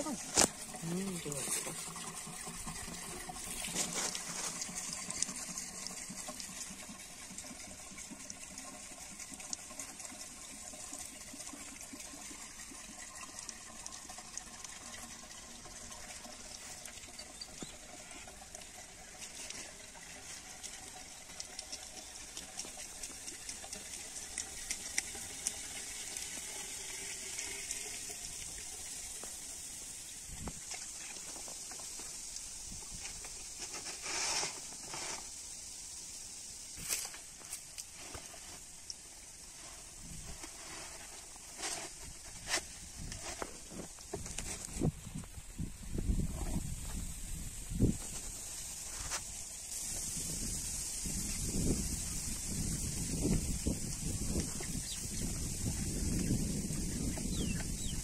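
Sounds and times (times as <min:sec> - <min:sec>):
water pouring and splashing: 0:00.0 - 0:58.0.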